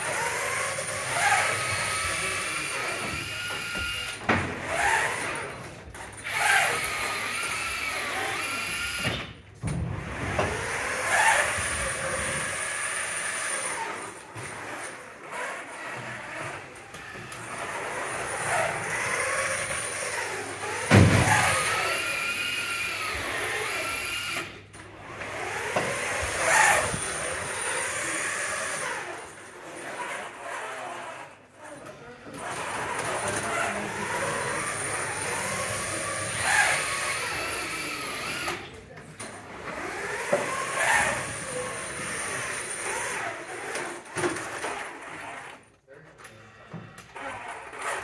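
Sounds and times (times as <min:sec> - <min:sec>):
electric motors whining: 0:00.0 - 0:48.0.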